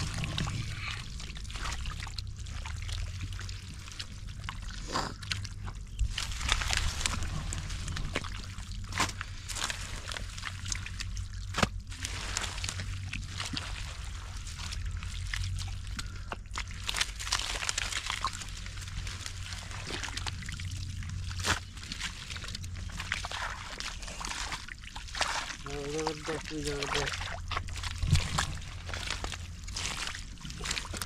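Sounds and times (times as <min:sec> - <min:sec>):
shallow water splashing: 0:00.0 - 0:31.0
steady low rumble: 0:00.0 - 0:31.0.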